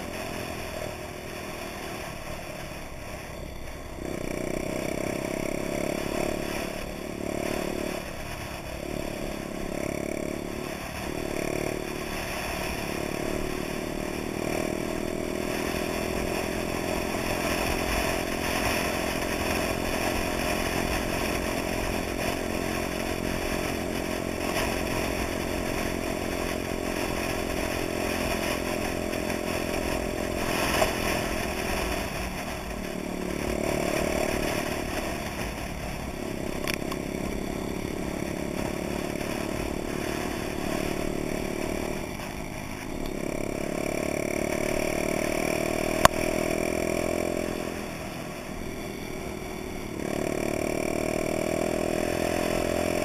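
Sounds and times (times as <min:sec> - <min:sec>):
motorbike engine running: 0:00.0 - 0:53.0.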